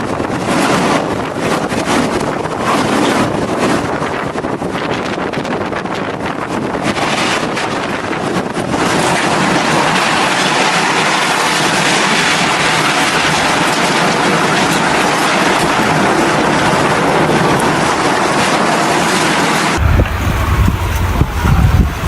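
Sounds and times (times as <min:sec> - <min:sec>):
rushing floodwater: 0:00.0 - 0:22.0.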